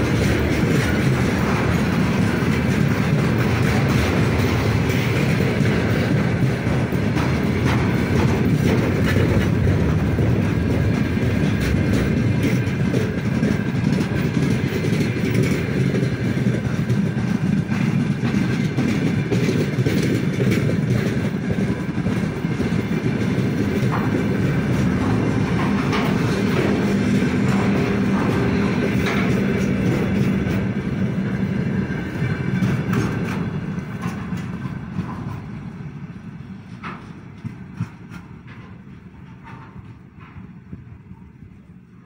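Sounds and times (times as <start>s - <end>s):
wheels clicking over rail joints: 0.0s - 41.9s
steel wheels rumbling on rails: 0.0s - 42.0s.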